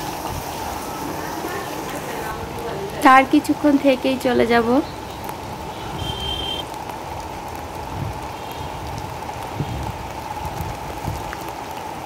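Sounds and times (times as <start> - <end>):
heavy rain on concrete roof: 0.0 - 12.0.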